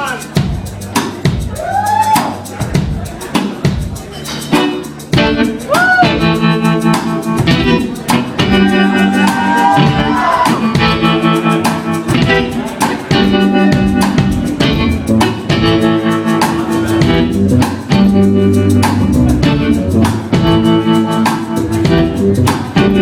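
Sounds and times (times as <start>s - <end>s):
live band playing instrumental: 0.0s - 23.0s.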